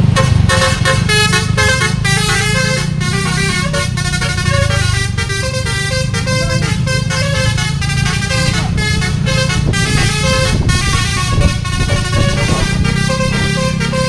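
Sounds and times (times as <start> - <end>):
low rumble: 0.0 - 14.0
multi-tone bus horn melody: 0.0 - 14.0.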